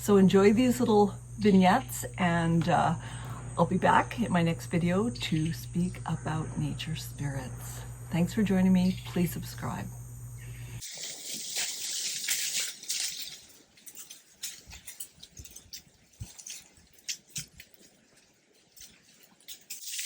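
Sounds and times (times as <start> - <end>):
insects hissing: 0.0 - 16.7.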